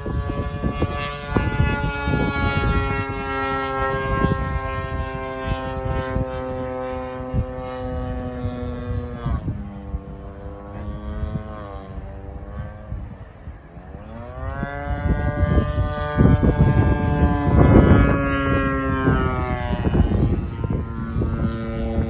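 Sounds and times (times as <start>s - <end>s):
model airplane motor droning: 0.0s - 22.0s
wind rumbling on microphone: 0.0s - 22.0s.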